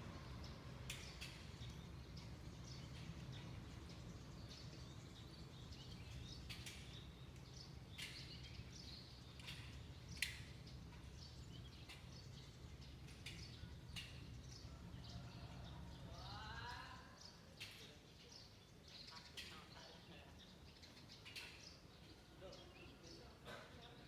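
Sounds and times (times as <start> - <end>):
low background hum: 0.0 - 24.0
small birds chirping: 0.0 - 24.0.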